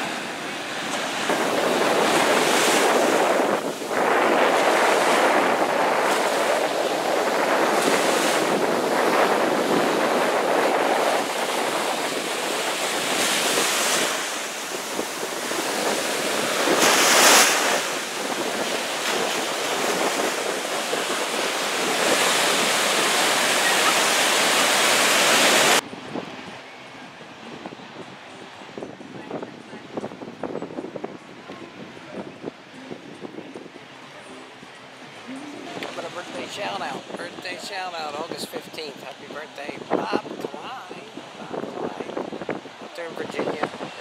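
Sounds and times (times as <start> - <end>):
ocean surf breaking: 0.0 - 26.3, 28.2 - 44.0
wind buffeting microphone: 0.0 - 44.0.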